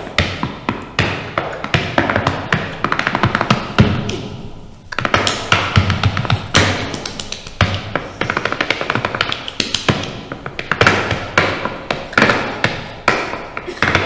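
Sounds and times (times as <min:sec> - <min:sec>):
percussive music: 0:00.0 - 0:14.0.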